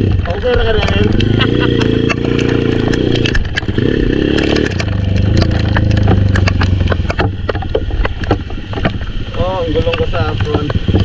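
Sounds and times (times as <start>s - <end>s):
motorcycle engine revving: 0.0s - 11.0s
sharp ticks: 0.2s - 9.1s.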